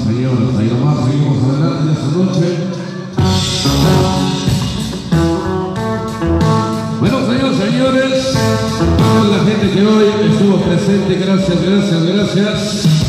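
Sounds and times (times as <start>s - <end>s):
loud dance music: 1.8s - 13.0s.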